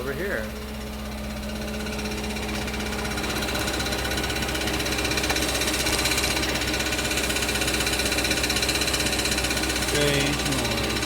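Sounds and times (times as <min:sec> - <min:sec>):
car engine idling: 0:00.0 - 0:11.0
metallic rattle under engine: 0:00.0 - 0:11.0.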